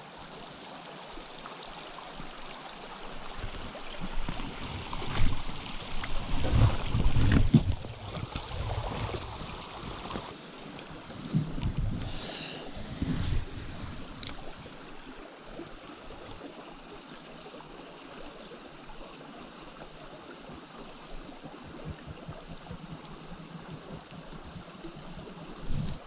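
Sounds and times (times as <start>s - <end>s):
mountain stream flowing: 0.0s - 26.0s.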